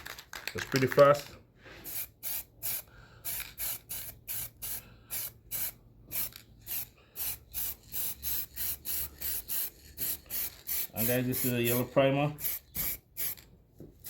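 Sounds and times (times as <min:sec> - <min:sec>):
aerosol spray hissing: 0:01.9 - 0:13.4.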